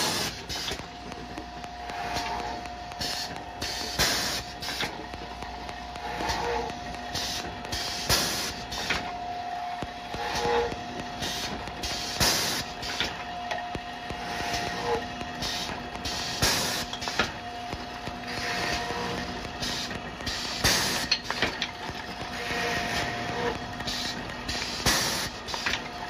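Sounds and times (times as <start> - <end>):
drill motors whining: 0.0 - 26.0.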